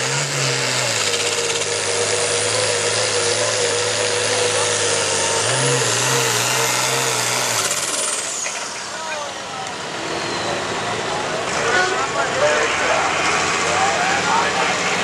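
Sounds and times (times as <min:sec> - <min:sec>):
diesel tractor engine at full load: 0:00.0 - 0:15.0
high turbo whine: 0:00.0 - 0:15.0.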